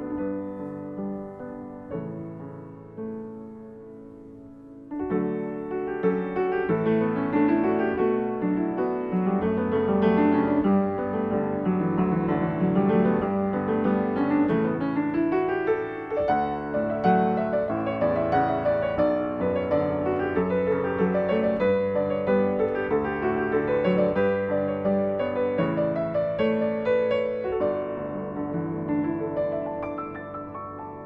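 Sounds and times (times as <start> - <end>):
upright piano playing: 0.0 - 31.0.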